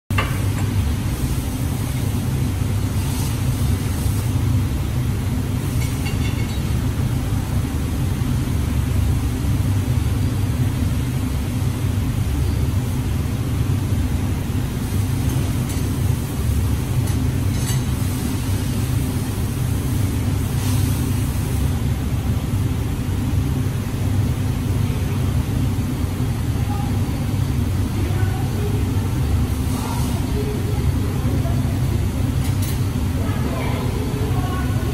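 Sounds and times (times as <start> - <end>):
workshop machinery rumble: 0.1 - 34.9.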